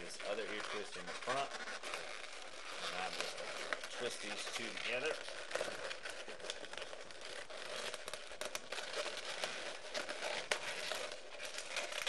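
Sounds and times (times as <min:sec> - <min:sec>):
balloons rubbing together: 0:00.0 - 0:12.0.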